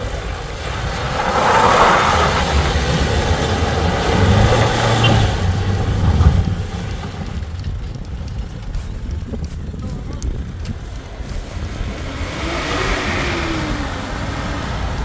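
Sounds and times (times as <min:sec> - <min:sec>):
pickup truck engine: 0:00.0 - 0:15.0
tyres on loose ground: 0:00.0 - 0:15.0.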